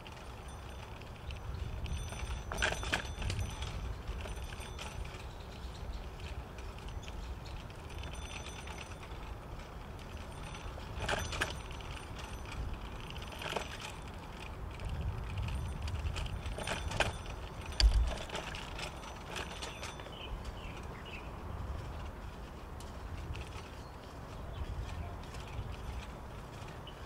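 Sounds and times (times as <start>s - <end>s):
light metallic rattles: 0.0s - 27.0s
tyres rumbling on pavement: 0.0s - 27.0s.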